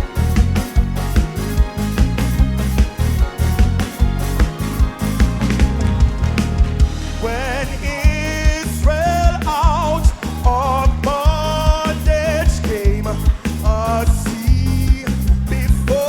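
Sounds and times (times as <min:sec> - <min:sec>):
gospel band playing a hymn: 0:00.0 - 0:16.0.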